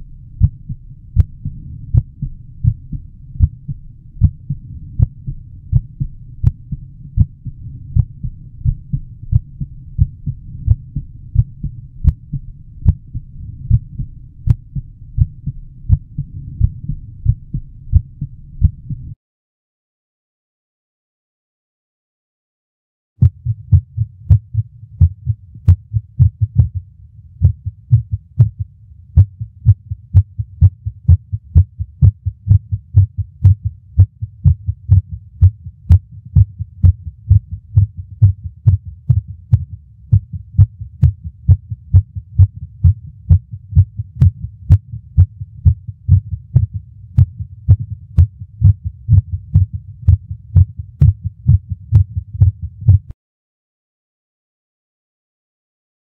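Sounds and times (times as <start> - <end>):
irregular heartbeat: 0.2 - 19.2, 23.2 - 53.2.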